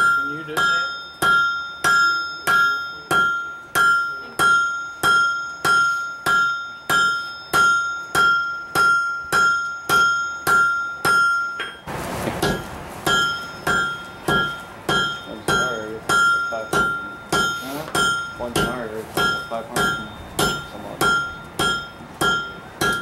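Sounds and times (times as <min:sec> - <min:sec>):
hammer striking steel on anvil: 0:00.0 - 0:23.0.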